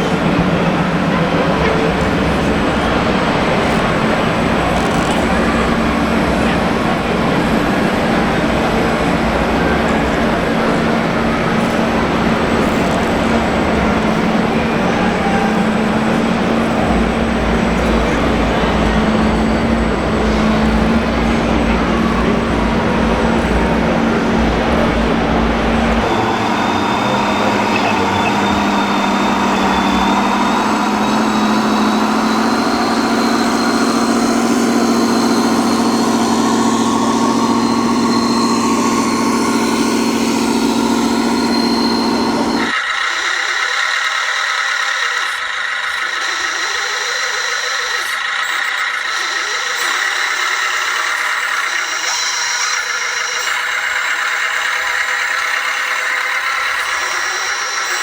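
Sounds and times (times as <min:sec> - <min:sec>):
thin high motor whine: 0:00.0 - 0:58.0
toy machine motor hum: 0:09.3 - 0:58.0.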